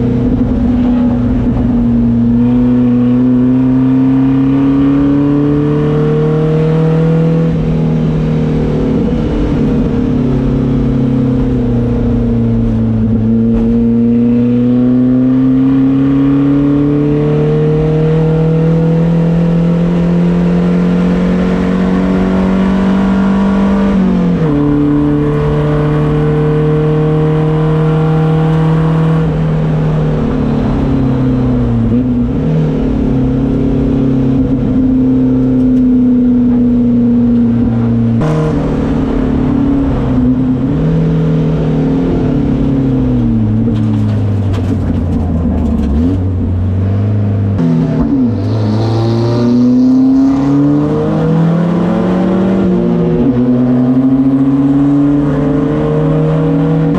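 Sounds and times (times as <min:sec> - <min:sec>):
race car engine: 0:00.0 - 0:56.9.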